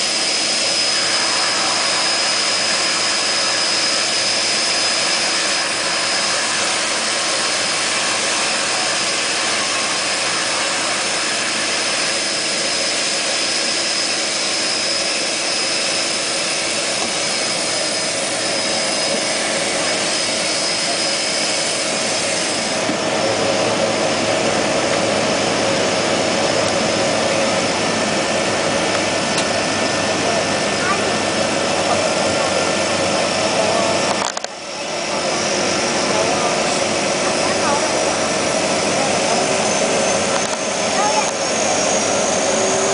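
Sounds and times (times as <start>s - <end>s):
high turbine whine: 0.0s - 42.9s
propeller engine running: 0.0s - 42.9s.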